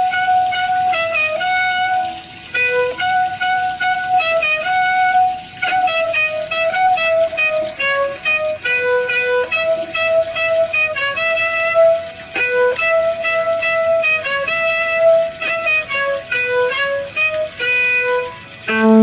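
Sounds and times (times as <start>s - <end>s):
violin slow melody: 0.0s - 19.0s.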